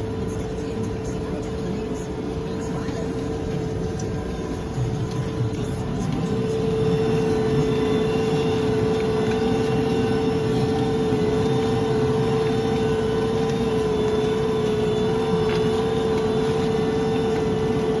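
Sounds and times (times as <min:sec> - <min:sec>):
tractor engine running under load: 0:00.0 - 0:18.0.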